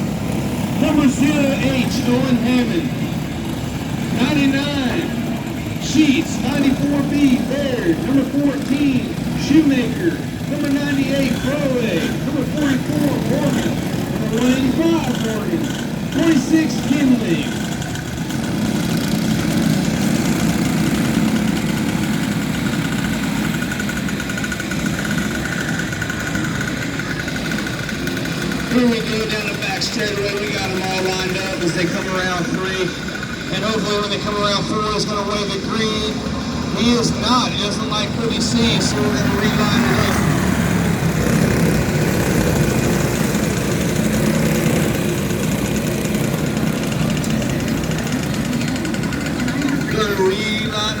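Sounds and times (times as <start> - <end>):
motorcycle engines droning: 0.0 - 51.0
pulsing engine buzz: 0.0 - 51.0.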